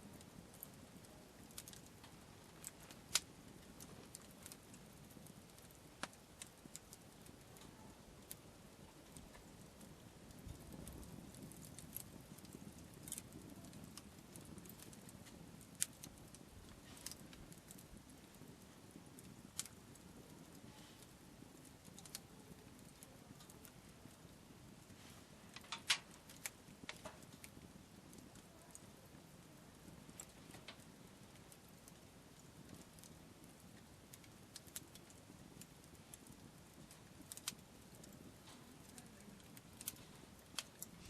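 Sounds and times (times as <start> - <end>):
campfire crackling: 0.0 - 41.0
soft low hiss: 0.0 - 41.0.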